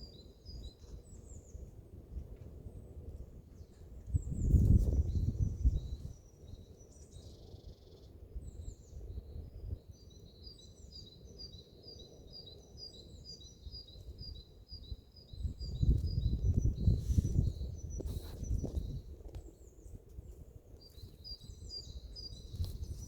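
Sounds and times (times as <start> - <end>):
songbird chirping: 3.6 - 23.0.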